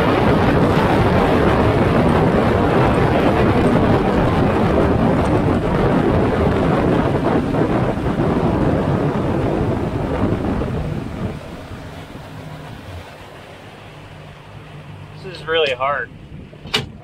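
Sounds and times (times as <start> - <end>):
outboard motor and hull roar: 0.0 - 17.0
wind buffeting microphone: 0.0 - 17.0.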